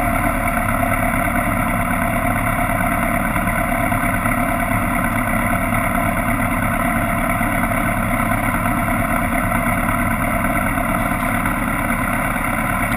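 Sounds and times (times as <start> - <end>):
vehicle engine running steadily: 0.0 - 12.9.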